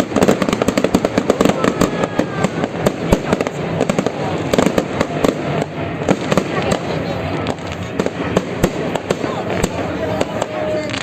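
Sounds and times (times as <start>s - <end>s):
firework whistles: 0.0s - 11.0s
fireworks crackling and banging: 0.0s - 11.0s.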